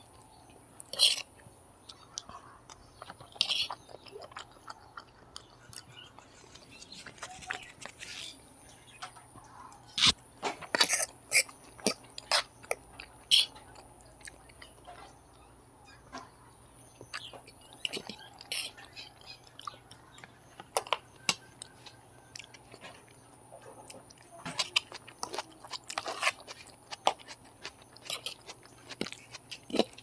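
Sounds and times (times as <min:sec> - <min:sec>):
chewing and smacking: 0:00.8 - 0:08.2, 0:08.9 - 0:15.4, 0:16.1 - 0:30.0.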